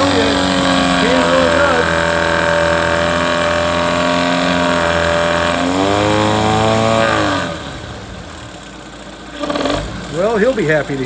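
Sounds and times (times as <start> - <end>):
outboard motor revving: 0.0 - 11.0.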